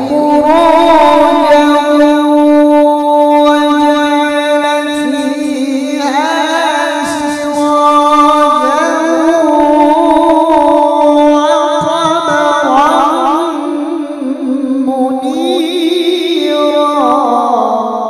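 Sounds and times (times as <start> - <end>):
man chanting through a microphone: 0.0 - 18.0.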